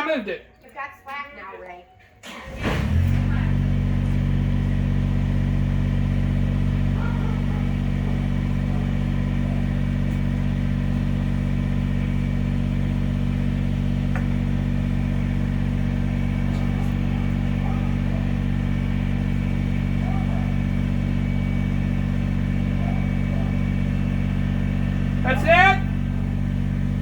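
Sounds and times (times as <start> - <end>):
engine droning steadily: 2.2 - 27.0.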